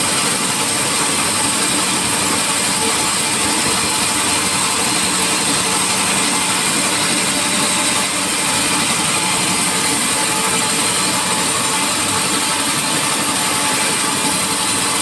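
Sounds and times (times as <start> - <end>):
sawmill saw whirring: 0.0 - 15.0.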